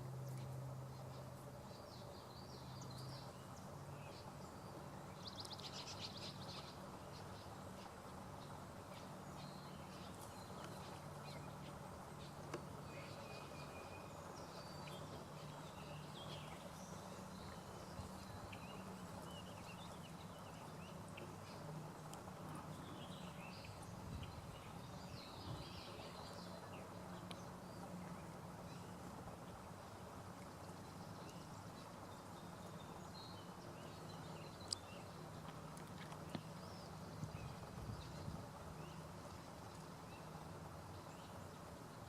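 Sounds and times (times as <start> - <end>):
small birds chirping: 0.0 - 42.0
steady low hum: 0.0 - 42.0.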